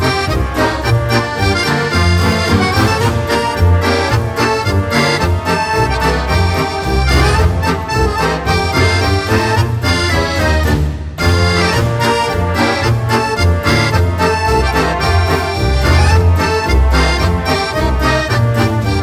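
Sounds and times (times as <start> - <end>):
folk accordion music: 0.0 - 19.0.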